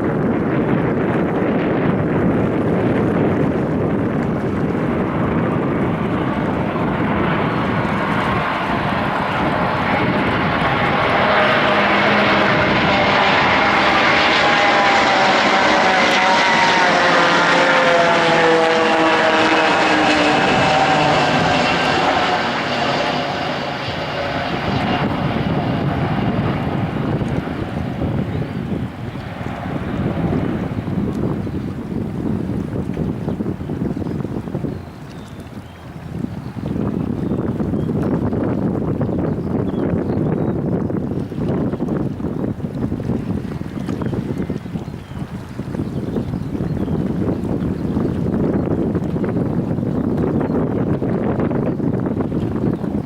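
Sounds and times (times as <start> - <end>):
jet engines passing by: 0.0 - 53.0.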